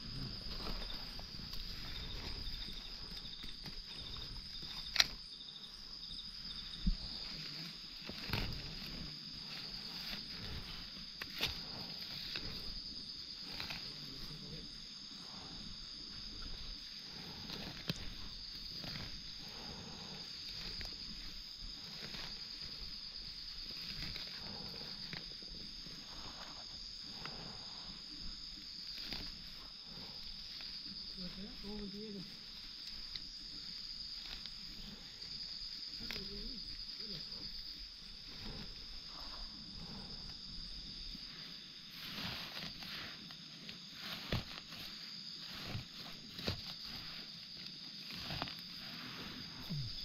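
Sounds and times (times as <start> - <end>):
insects chirring: 0.0 - 50.0
rustles: 0.0 - 50.0.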